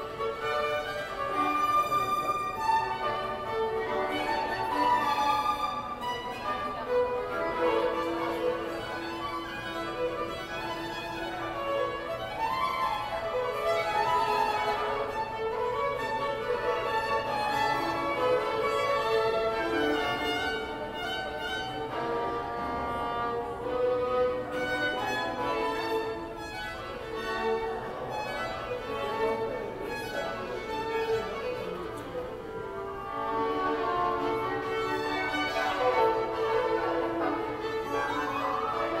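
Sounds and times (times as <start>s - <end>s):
violins playing a melody: 0.0s - 39.0s.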